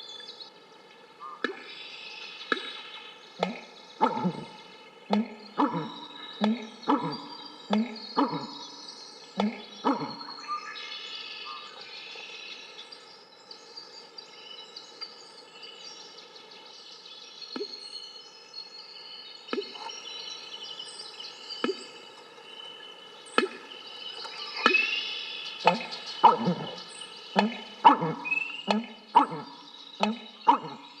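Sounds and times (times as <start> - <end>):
small birds chirping and trilling: 1.2 - 31.0.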